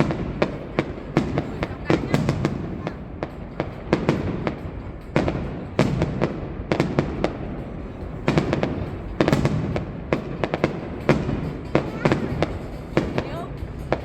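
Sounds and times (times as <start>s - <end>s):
continuous rumble: 0.0s - 14.0s
fireworks bangs and crackles: 0.0s - 14.0s.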